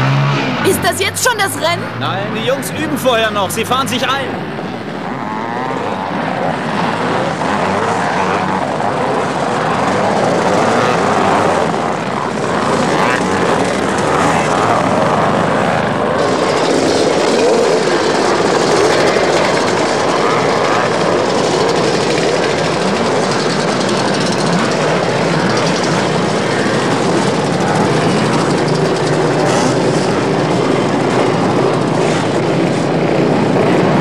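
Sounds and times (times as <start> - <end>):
dirt bike engines revving: 0.0 - 34.0
road motorcycles riding up: 0.0 - 34.0.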